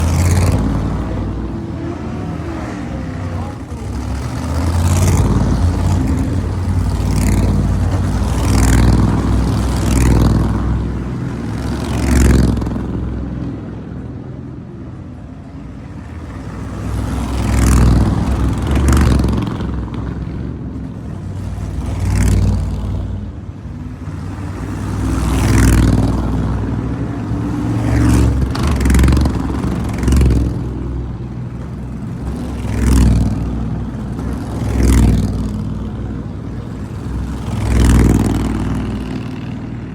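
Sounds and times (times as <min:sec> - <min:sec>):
race car engines passing by: 0:00.0 - 0:39.9.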